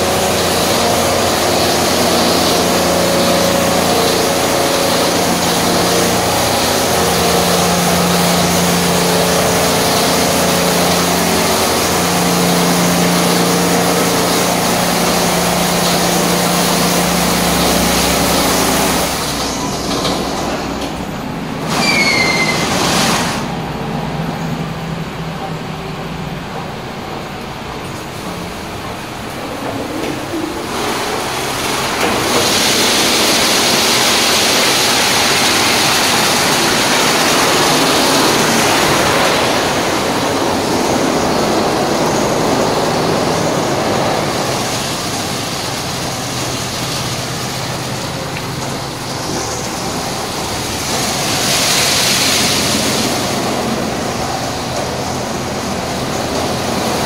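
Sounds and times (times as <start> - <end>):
wash machinery hum: 0.0 - 57.0
water spray rushing: 0.0 - 57.0.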